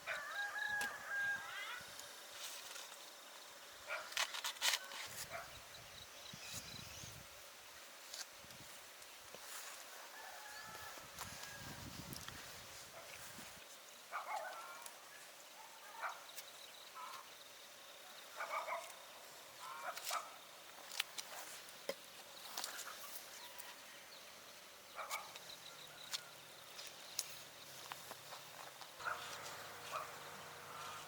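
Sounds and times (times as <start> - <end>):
faint steady hiss: 0.8 - 31.0.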